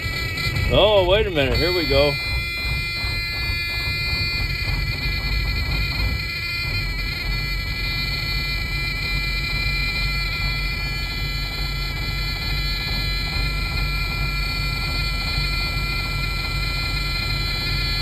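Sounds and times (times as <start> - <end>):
diesel engine idling: 0.0 - 18.0
warning buzzer: 0.0 - 18.0.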